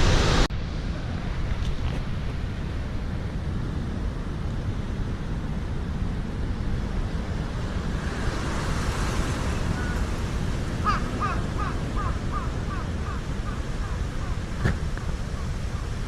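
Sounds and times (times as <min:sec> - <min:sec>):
wind and surf rumble: 0:00.0 - 0:16.0.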